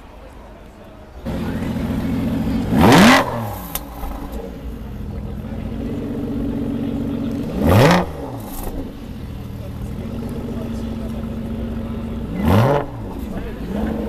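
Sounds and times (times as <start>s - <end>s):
car engine idling and revving: 1.2s - 14.0s.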